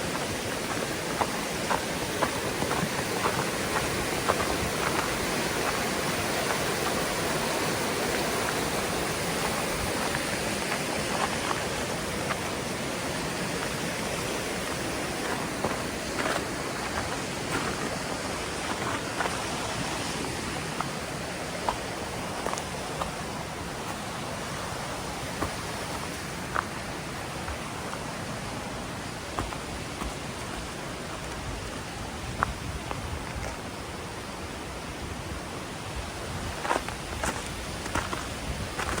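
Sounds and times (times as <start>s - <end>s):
waterfall rushing water: 0.0s - 39.0s.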